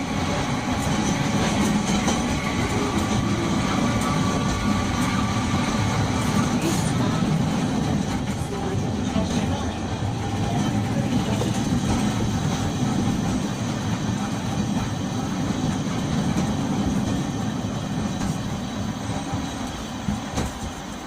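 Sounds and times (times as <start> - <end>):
tram rumble from inside: 0.0 - 21.0.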